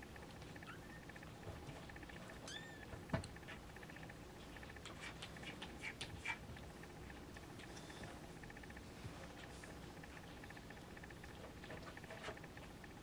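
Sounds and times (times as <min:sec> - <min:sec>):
light clicks and scratches: 0:00.1 - 0:13.0.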